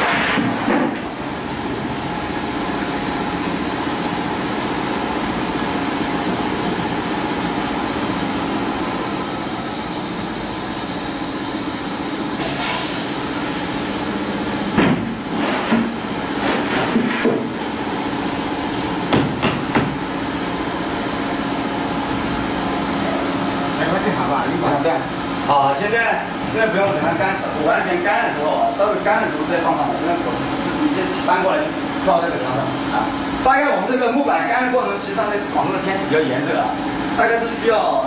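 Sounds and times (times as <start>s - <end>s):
steady droning hum: 0.0s - 38.0s.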